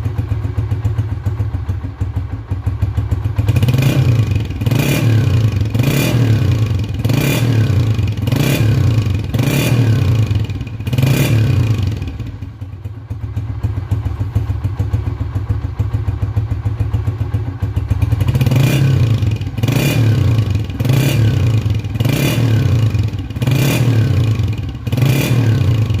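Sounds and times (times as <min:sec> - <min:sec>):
motorcycle engine idling: 0:00.0 - 0:26.0
motorcycle engine revving: 0:00.0 - 0:26.0.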